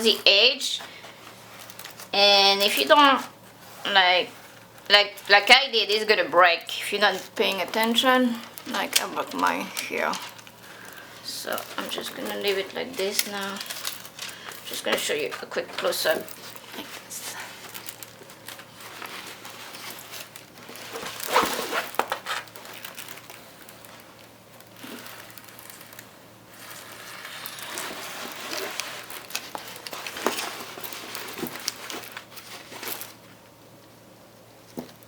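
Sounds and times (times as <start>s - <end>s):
plastic film rustling and crinkling: 0.0s - 33.6s
sharp plastic crackles: 0.9s - 3.5s, 4.3s - 33.9s.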